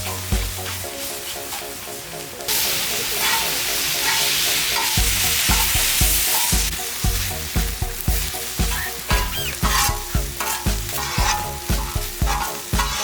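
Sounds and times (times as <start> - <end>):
background music with steady beat: 0.0 - 13.0
food sizzling on a griddle: 0.0 - 13.0.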